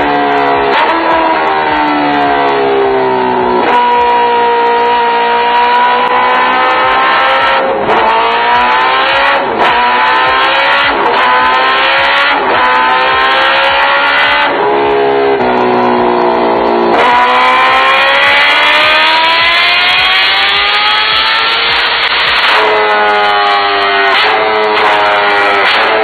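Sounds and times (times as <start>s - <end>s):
motorcycle engine revving on dyno: 0.0s - 14.6s, 16.8s - 26.0s.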